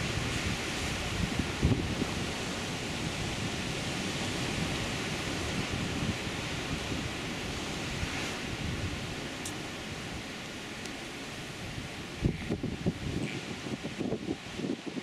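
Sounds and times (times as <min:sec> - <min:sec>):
low rumble of waves: 0:00.0 - 0:15.0.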